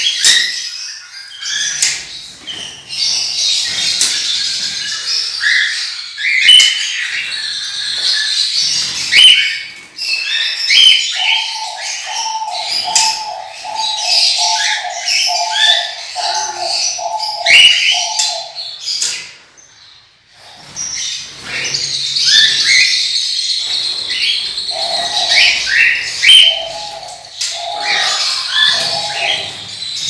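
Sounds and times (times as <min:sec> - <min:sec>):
parrots chirping and squawking: 0:00.0 - 0:30.0.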